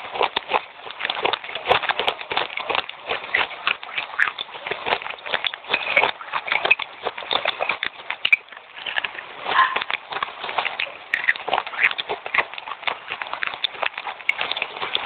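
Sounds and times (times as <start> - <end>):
person chewing crunchy clay: 0.0 - 15.0.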